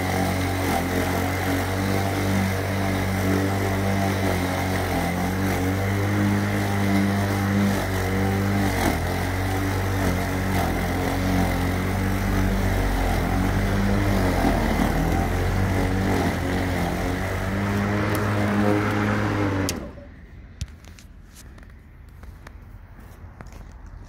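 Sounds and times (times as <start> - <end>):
lawn mower cutting grass: 0.0 - 20.2.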